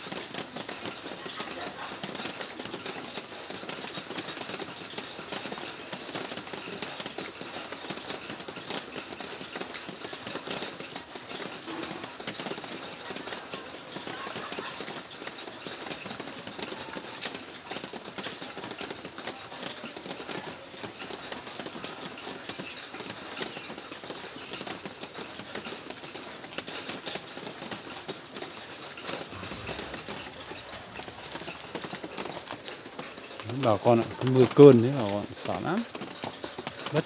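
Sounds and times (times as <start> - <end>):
rain drops ticking on hard surfaces: 0.0 - 37.0.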